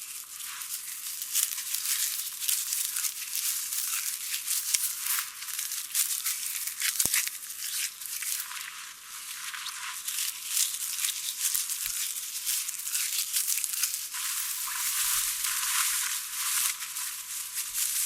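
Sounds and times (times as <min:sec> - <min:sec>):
dry plant material rustling: 0:00.0 - 0:18.0.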